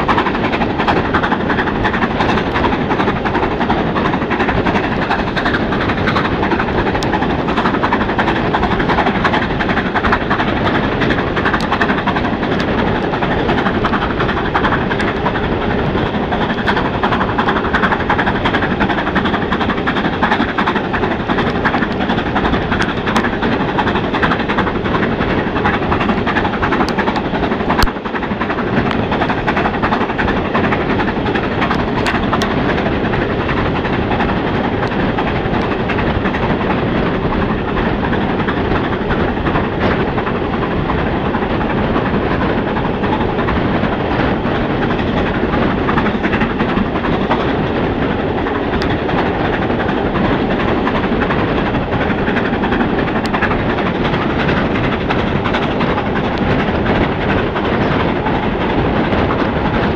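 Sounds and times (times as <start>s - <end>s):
wheels on rail: 0.0s - 59.9s
wind rushing: 0.0s - 59.9s.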